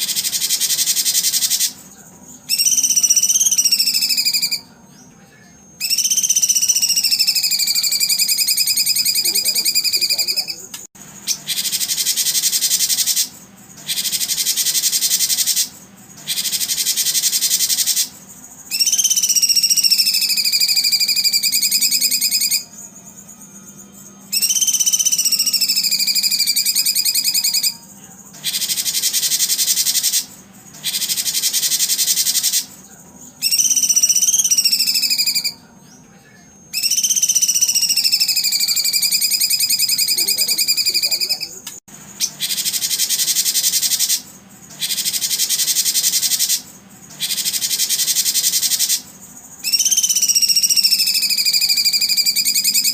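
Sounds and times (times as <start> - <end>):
high rapid buzzing bird trills: 0.0 - 52.9.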